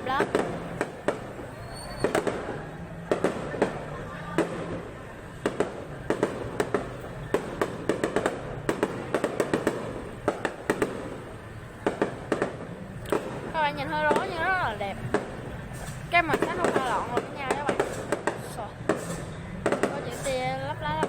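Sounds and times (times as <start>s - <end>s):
background rumble: 0.0s - 21.0s
fireworks bangs: 0.0s - 21.0s.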